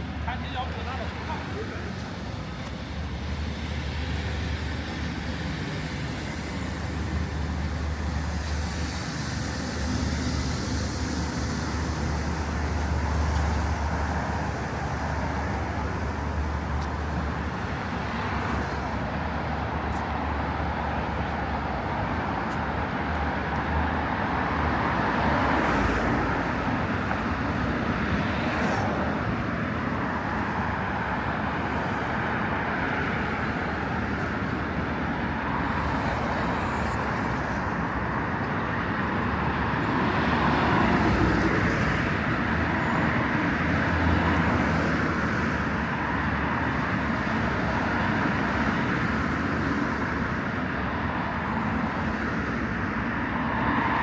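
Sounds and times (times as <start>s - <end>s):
engine rumble of passing vehicles: 0.0s - 54.0s
road traffic noise: 0.0s - 54.0s.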